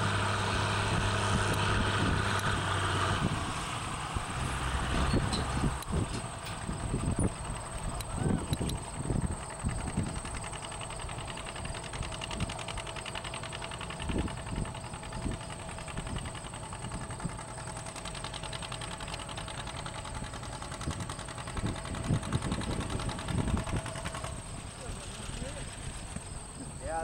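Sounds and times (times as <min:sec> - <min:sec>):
tractor engine putt-putt: 0:00.0 - 0:27.0.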